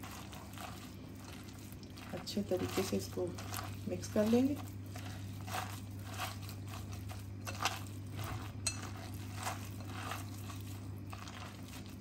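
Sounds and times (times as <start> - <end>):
steady low hum: 0.0 - 12.0
wet squishing of hand mixing: 0.0 - 12.0.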